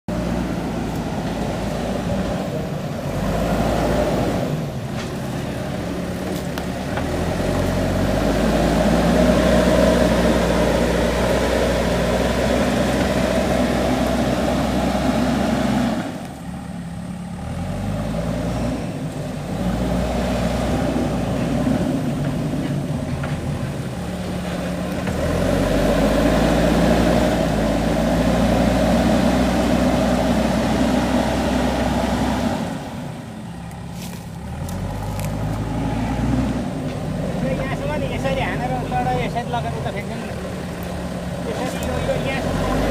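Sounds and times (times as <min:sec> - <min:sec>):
diesel engine under load: 0:00.1 - 0:42.9.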